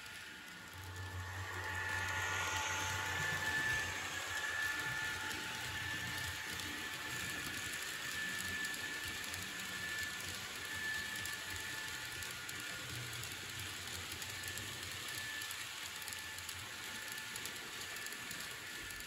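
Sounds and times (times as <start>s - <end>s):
model locomotive whine: 0.0s - 19.0s
model train wheels clattering: 1.1s - 19.0s.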